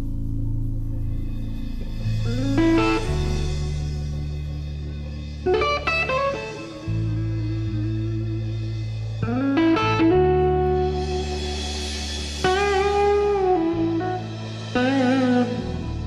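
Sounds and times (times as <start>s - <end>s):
electric guitar phrases: 0.0s - 16.0s
held bass notes: 0.0s - 16.0s.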